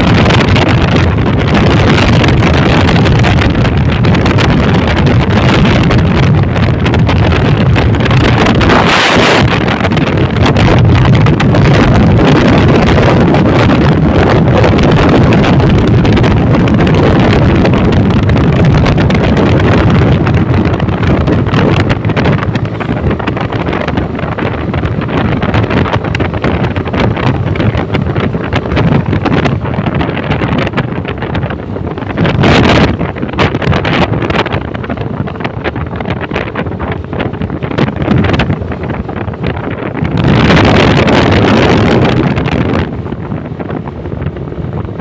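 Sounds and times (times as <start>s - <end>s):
motorcycle engine: 0.0s - 45.0s
road noise: 0.0s - 45.0s
wind buffeting microphone: 0.0s - 45.0s.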